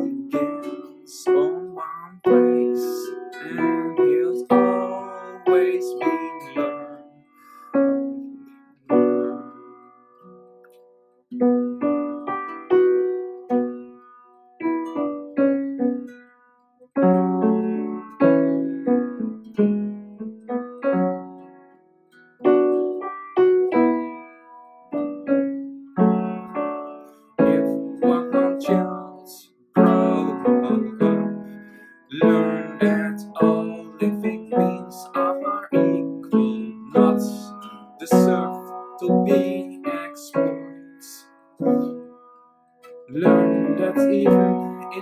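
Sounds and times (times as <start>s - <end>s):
solo piano music: 0.0s - 45.0s.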